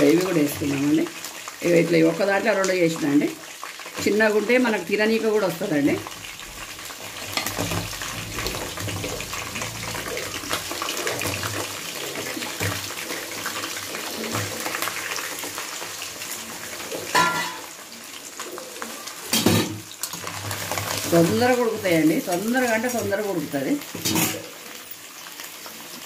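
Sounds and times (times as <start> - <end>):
crab sizzling in hot oil: 0.0 - 26.0.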